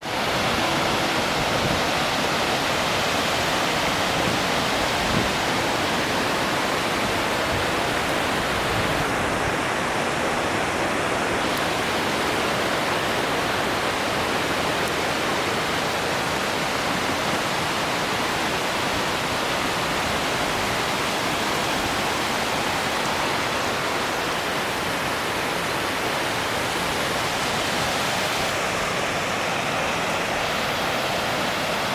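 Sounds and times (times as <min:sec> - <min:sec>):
waterfall roaring: 0:00.0 - 0:31.9.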